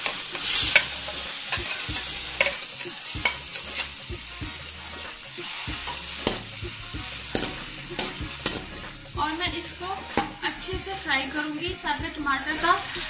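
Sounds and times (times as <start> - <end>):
spatula scraping a pan: 0.0 - 10.6
tomato sizzling in hot oil: 0.0 - 13.0.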